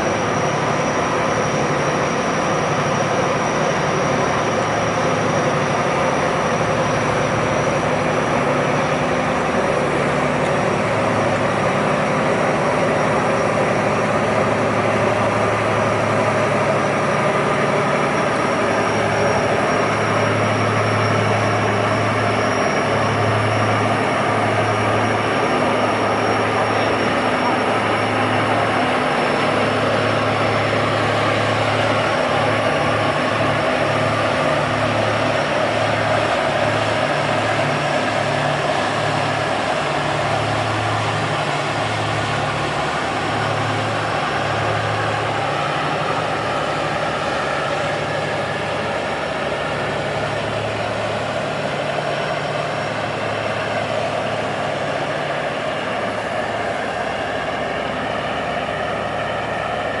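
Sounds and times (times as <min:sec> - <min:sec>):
diesel boat engine throbbing: 0:00.0 - 1:00.0
turbocharger whine: 0:00.0 - 1:00.0.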